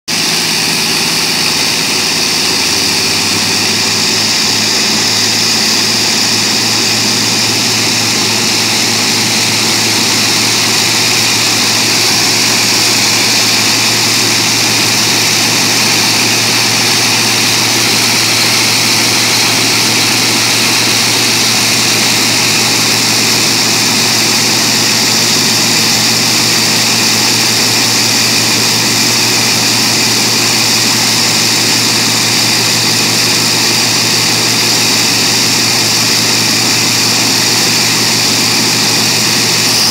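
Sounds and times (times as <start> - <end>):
aircraft engines running: 0.1 - 39.9.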